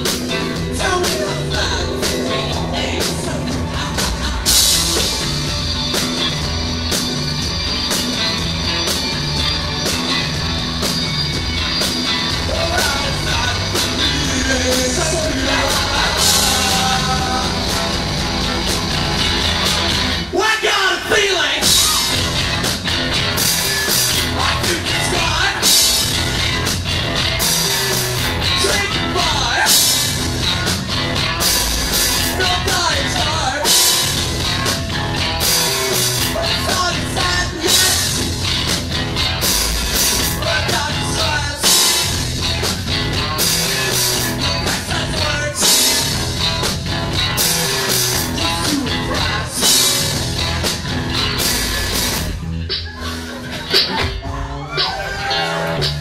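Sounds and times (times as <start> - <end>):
electric guitar: 0.0 - 20.4, 21.5 - 56.0
bass guitar: 0.0 - 56.0
drum kit with cymbals: 0.0 - 56.0.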